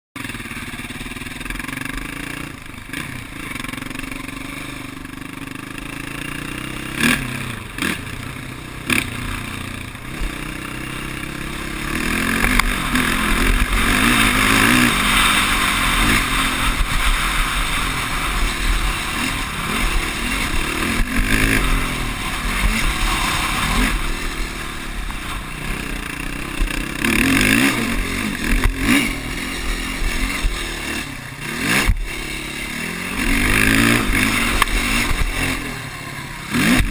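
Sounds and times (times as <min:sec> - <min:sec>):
quad engine revving: 0:00.2 - 0:36.9.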